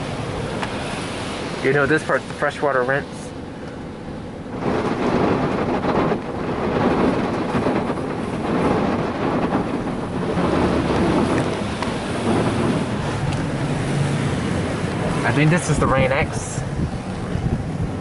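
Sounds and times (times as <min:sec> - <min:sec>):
water spray hitting car roof: 0:00.0 - 0:03.4, 0:04.5 - 0:18.0.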